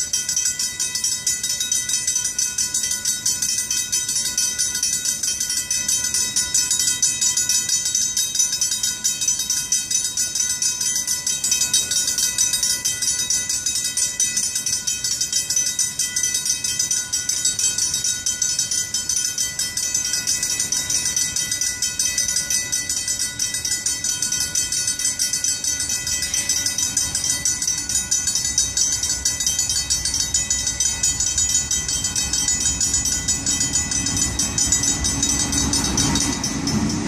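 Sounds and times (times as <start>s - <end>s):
railroad crossing bells ringing: 0.0s - 37.0s.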